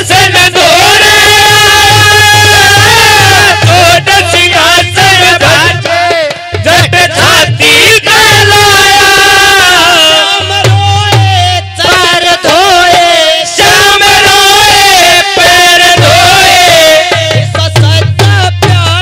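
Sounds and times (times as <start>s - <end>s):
drum accompaniment: 0.0s - 19.0s
harmonium: 0.0s - 19.0s
man singing through loudspeakers: 0.0s - 19.0s.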